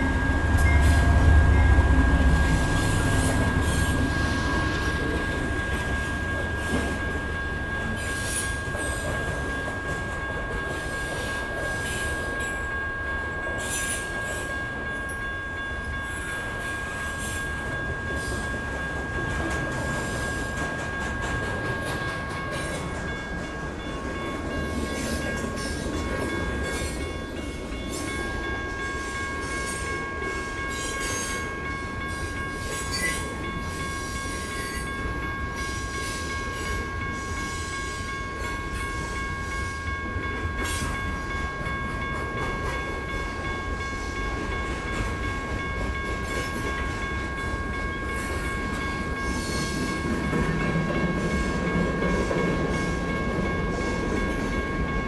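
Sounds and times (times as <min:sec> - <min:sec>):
crossing bells ringing: 0:00.0 - 0:55.0.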